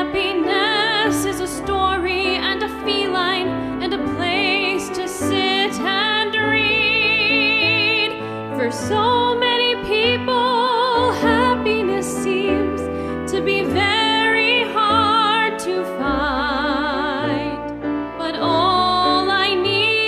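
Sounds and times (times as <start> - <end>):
woman singing with vibrato: 0.0 - 17.6
instrumental accompaniment: 0.0 - 20.0.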